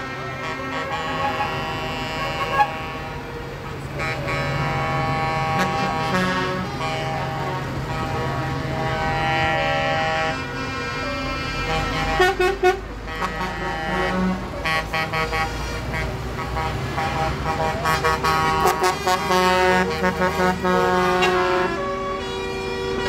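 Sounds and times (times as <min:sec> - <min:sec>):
truck air horns: 0:00.0 - 0:23.0
truck engines running: 0:00.0 - 0:23.0.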